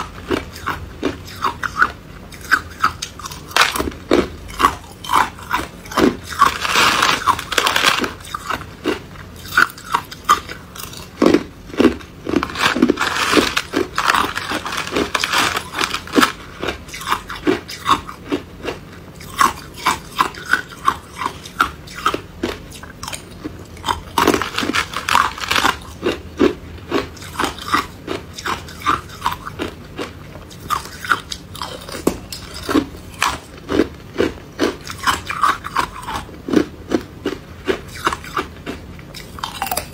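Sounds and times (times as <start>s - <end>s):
ice crunching and chewing: 0.0s - 39.9s.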